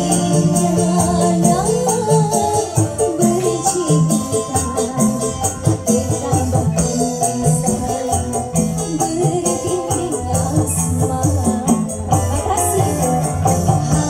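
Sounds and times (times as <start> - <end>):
loud dance music with percussion: 0.0 - 14.0.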